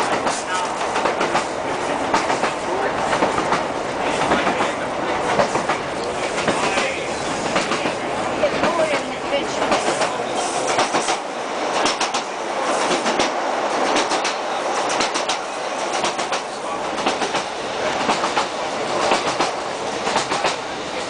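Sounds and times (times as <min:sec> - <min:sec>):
train rushing rumble: 0:00.0 - 0:21.0
wheels clacking over rail joints: 0:00.0 - 0:21.0.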